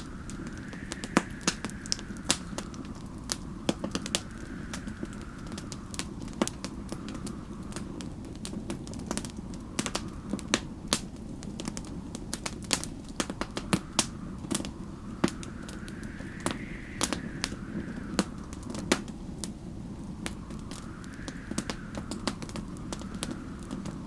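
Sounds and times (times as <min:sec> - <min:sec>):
wind howling: 0:00.0 - 0:24.0
wood fire crackling: 0:00.0 - 0:24.0.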